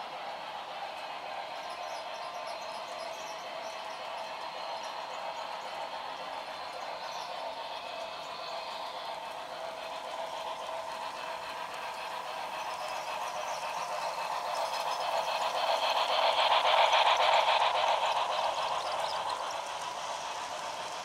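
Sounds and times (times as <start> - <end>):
model steam train clicking rattle: 0.0 - 21.0.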